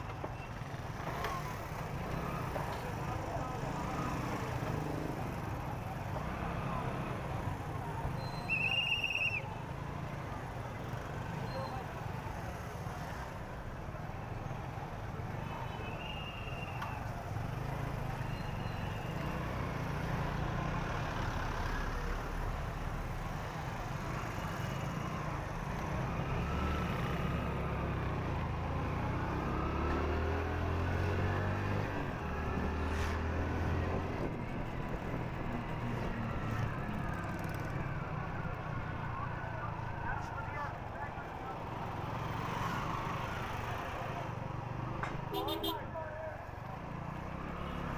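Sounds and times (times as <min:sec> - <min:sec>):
city traffic noise: 0:00.0 - 0:47.9.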